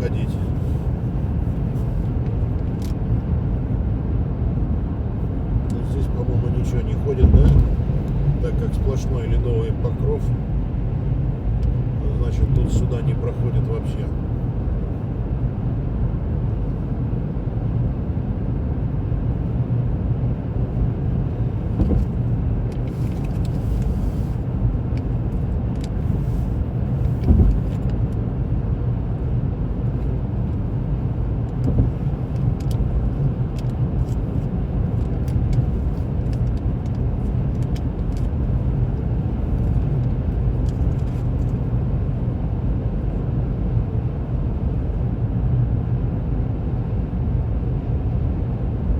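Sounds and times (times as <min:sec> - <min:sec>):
car driving heard from cabin: 0:00.0 - 0:48.9.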